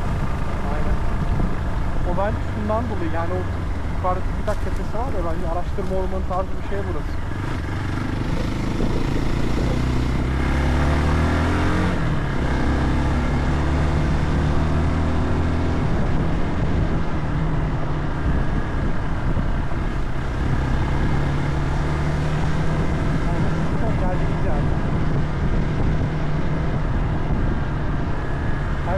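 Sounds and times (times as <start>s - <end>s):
vehicle engine on dirt track: 0.0s - 28.9s.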